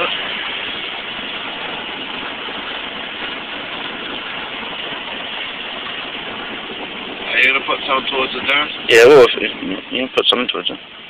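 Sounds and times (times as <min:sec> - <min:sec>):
car wash spraying water: 0:00.0 - 0:11.0.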